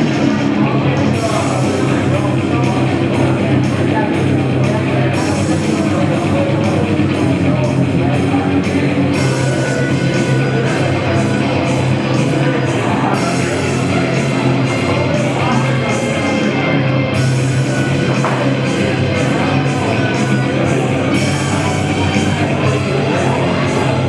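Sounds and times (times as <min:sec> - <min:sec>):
loud live rock music: 0:00.0 - 0:24.0.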